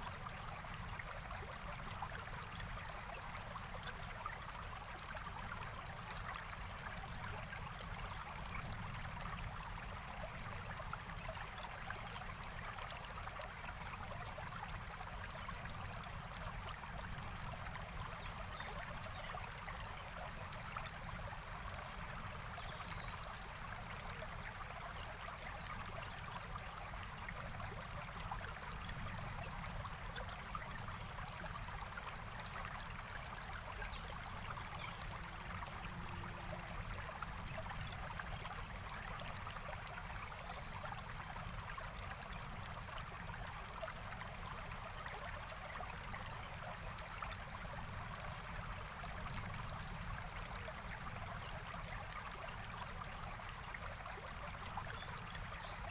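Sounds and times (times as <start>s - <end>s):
stream running over stones: 0.0s - 55.9s.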